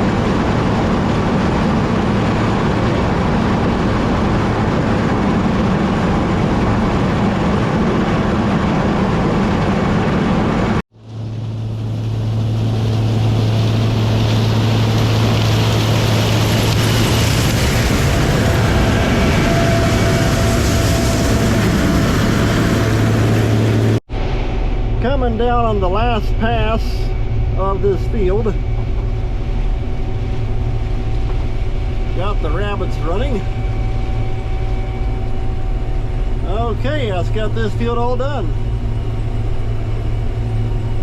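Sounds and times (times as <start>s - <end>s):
combine harvester humming: 0.0s - 41.0s
steady drone with rising hiss: 0.0s - 41.0s.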